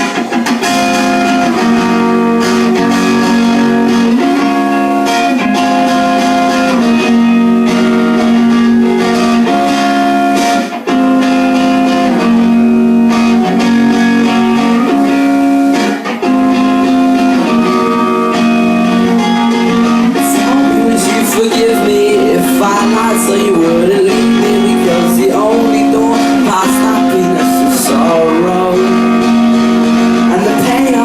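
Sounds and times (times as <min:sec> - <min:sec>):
guitar playing chords: 0:00.0 - 0:31.0.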